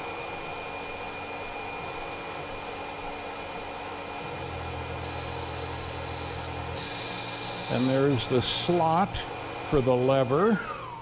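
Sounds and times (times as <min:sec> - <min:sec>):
mill spindle whirring: 0:00.0 - 0:11.0.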